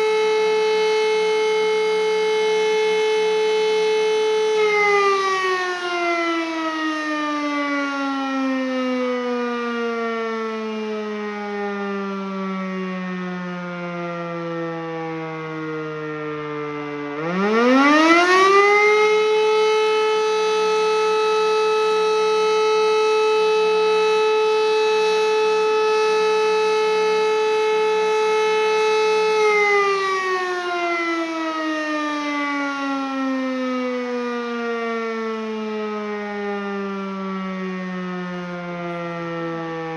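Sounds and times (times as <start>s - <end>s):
civil defense siren wailing: 0.0s - 39.9s.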